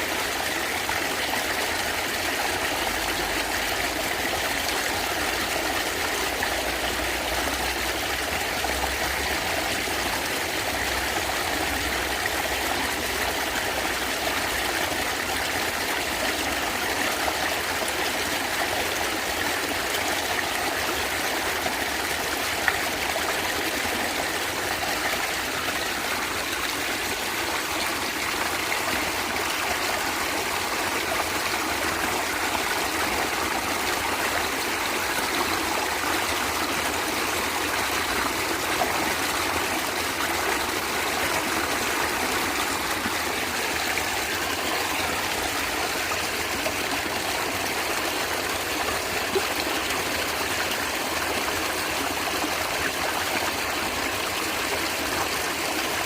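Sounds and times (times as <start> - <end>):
water gurgling and trickling: 0.0 - 56.0.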